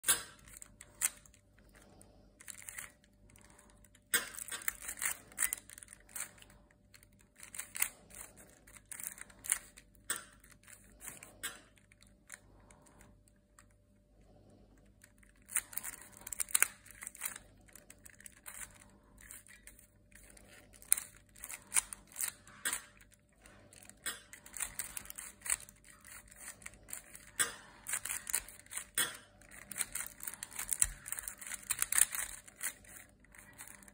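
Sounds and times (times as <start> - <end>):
plastic puzzle clicks and rattles: 0.0 - 33.9.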